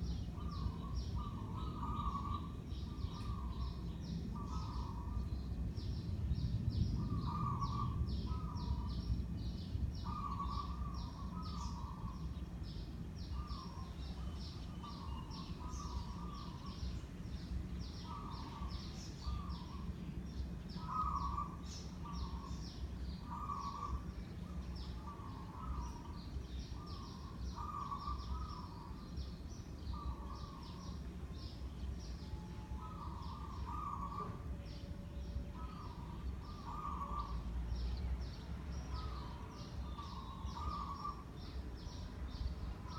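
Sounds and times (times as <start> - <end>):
birds calling: 0.0 - 5.7, 6.4 - 42.9.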